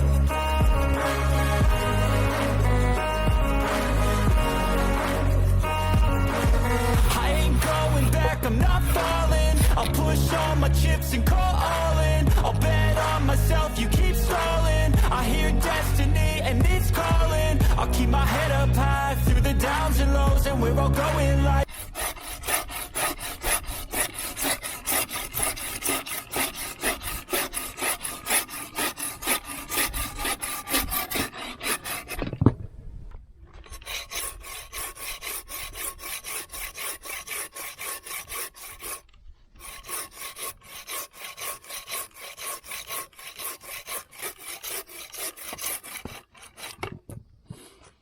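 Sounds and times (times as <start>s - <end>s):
hand file rasping: 0.0s - 16.1s, 21.0s - 32.4s, 33.6s - 46.9s.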